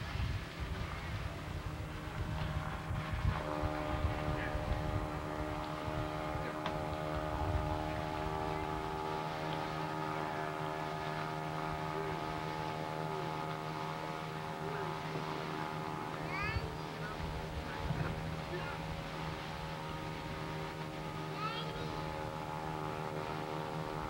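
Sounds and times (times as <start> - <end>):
wind buffeting microphone: 0.0 - 15.0, 15.6 - 24.0
motor drone: 0.0 - 24.0.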